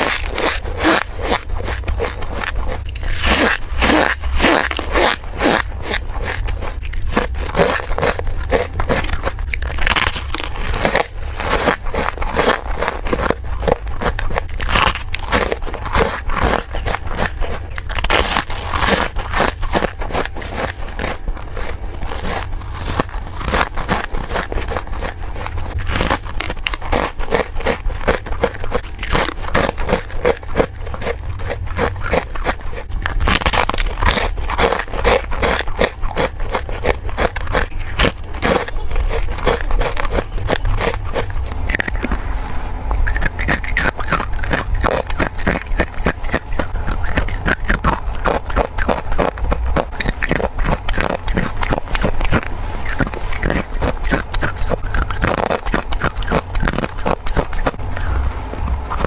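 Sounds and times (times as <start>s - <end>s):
chewing crunchy frost: 0.0s - 59.0s.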